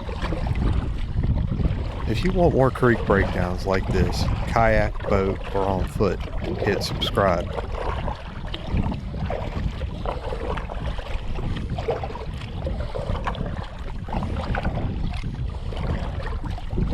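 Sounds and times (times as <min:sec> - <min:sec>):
light water sounds: 0:00.0 - 0:16.9
wind buffeting microphone: 0:00.0 - 0:16.9.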